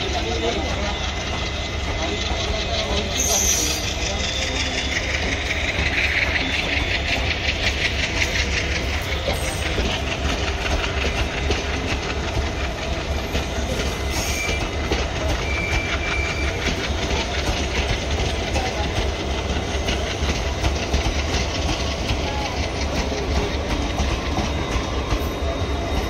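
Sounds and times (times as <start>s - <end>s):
train coaches rumbling past: 0.0s - 26.0s
wheels clacking over rail joints: 0.0s - 26.0s.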